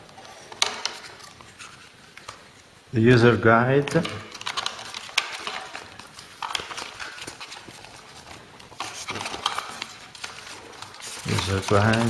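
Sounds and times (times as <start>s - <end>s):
paper rustling: 0.0s - 2.6s, 4.0s - 12.0s.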